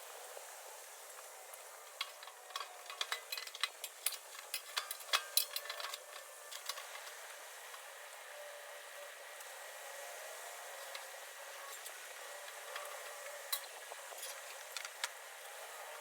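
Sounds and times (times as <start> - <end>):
faint fire hiss: 0.0 - 16.0.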